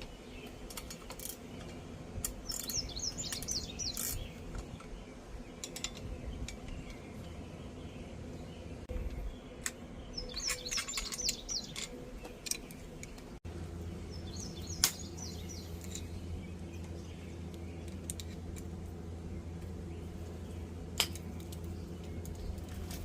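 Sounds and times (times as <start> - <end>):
low hum: 0.0 - 23.0
small birds chirping: 0.0 - 23.0.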